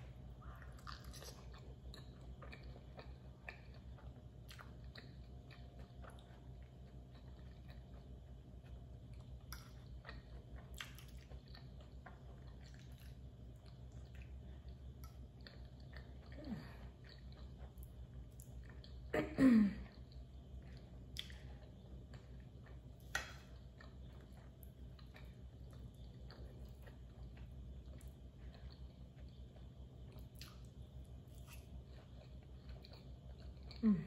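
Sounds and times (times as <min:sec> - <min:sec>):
chewing pasta: 0:00.0 - 0:19.2, 0:19.8 - 0:34.0.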